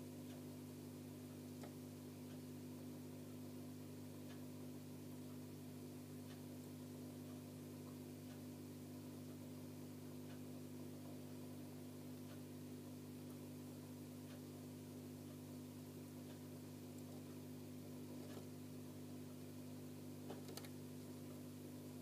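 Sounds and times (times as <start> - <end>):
faint irregular ticks: 0.0 - 22.0
steady low hum: 0.0 - 22.0.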